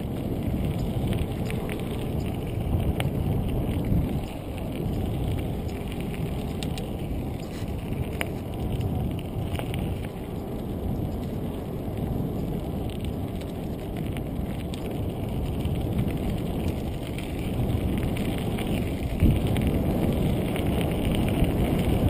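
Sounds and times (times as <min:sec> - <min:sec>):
bike rolling noise: 0:00.0 - 0:22.0
wind rumbling on microphone: 0:00.0 - 0:22.0.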